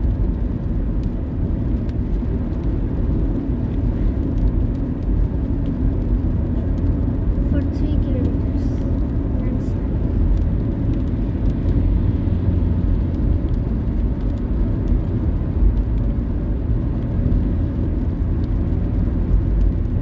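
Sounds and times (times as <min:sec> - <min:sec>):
car tyres and engine rumble: 0:00.0 - 0:20.0.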